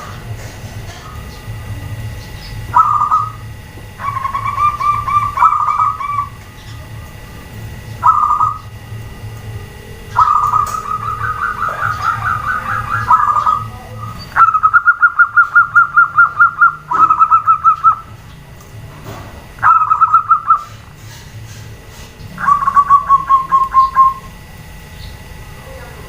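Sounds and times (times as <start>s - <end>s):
doves cooing in pulsed trills: 0.0s - 18.6s, 19.4s - 26.0s.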